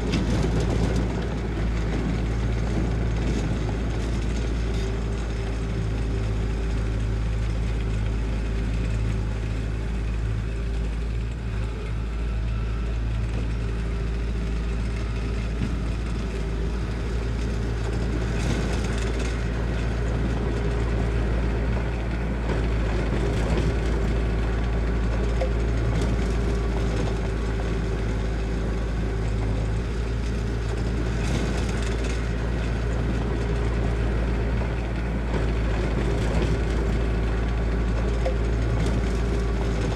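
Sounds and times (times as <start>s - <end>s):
rattling and clanking: 0.0s - 11.4s, 13.2s - 39.9s
diesel engine rumbling: 0.0s - 39.9s.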